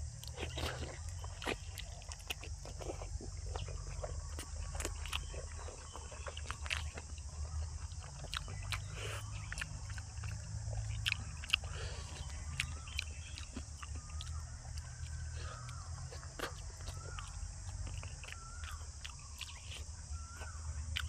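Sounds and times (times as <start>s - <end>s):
steady low hum: 0.0s - 21.0s
person chewing with wet mouth smacks: 0.2s - 21.0s.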